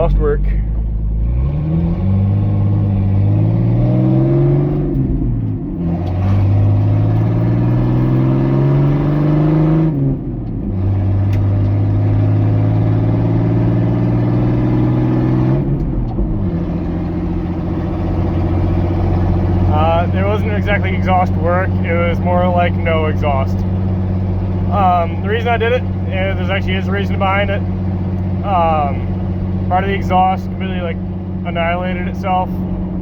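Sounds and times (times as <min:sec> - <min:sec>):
loud car engine accelerating: 0:00.0 - 0:33.0.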